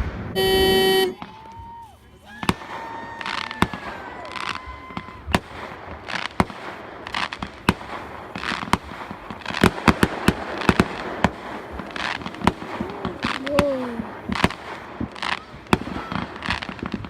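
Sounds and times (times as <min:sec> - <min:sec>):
fireworks bangs: 0:00.0 - 0:17.0
fireworks crackling and fizzing: 0:00.0 - 0:17.0.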